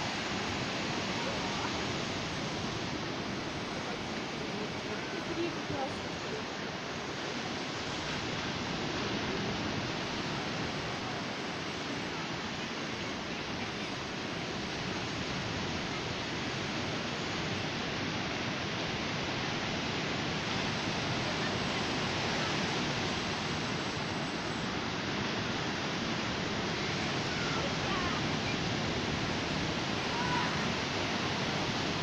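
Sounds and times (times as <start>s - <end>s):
sea surf breaking on beach: 0.0s - 32.0s.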